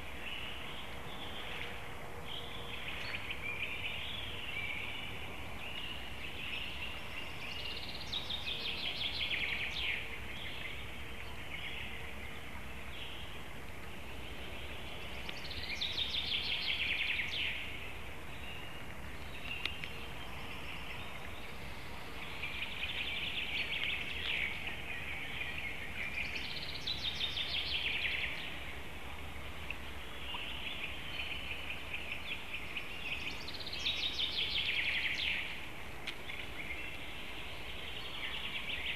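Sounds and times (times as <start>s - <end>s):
faint background hum: 0.0s - 38.9s
songbird singing: 0.0s - 38.9s.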